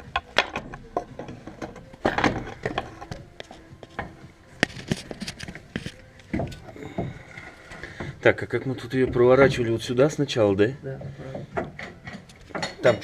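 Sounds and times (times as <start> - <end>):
metal knocks and clunks: 0.0 - 13.0.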